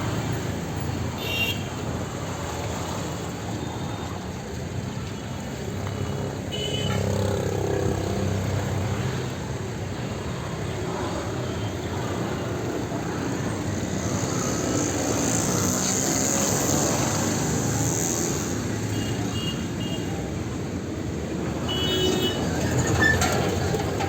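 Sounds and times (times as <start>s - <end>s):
road noise: 0.0s - 24.0s
vehicles passing: 0.0s - 24.0s.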